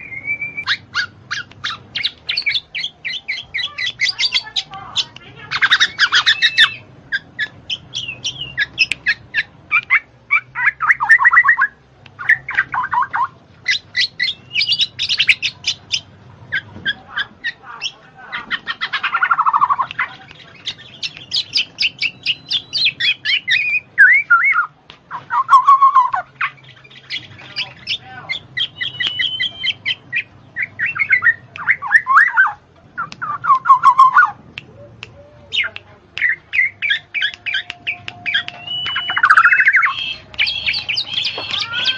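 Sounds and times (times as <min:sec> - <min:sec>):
bird singing: 0:00.0 - 0:41.9.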